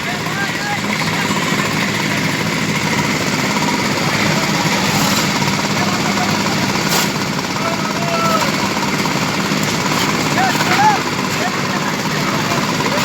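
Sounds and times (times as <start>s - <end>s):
construction machinery engine rattling: 0.0s - 13.0s.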